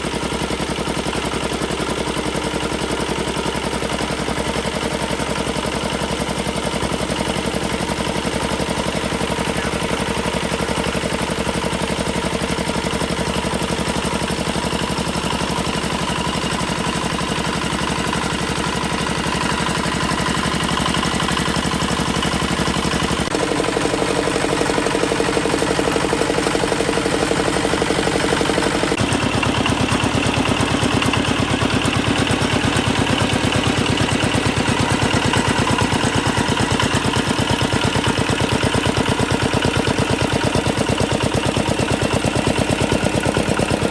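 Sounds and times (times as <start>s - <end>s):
single-cylinder diesel engine running: 0.0s - 43.9s.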